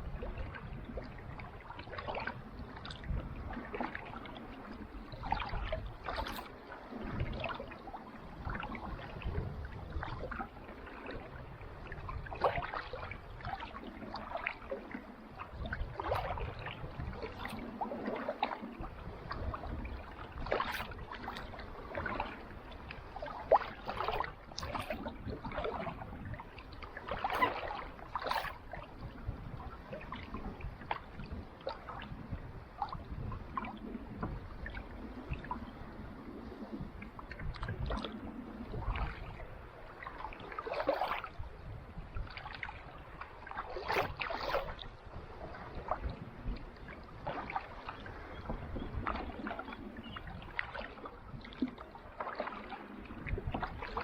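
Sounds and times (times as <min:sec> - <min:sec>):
paddle splashing water: 0:00.0 - 0:54.0.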